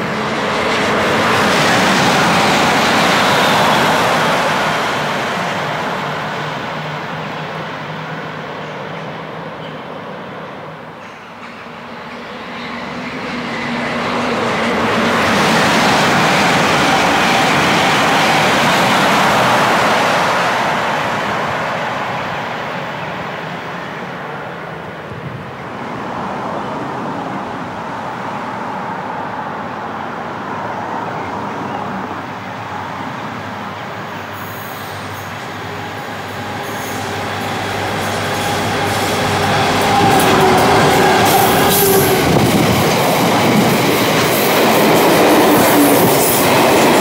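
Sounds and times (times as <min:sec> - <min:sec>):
express train passing: 0:00.0 - 0:47.0
steady quieter train sound: 0:00.0 - 0:47.0.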